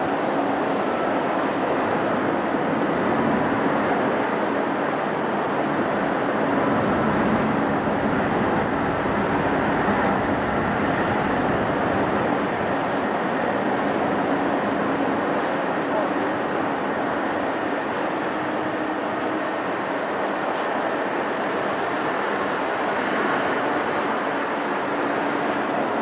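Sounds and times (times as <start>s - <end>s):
distant jet engines roaring: 0.0s - 26.0s.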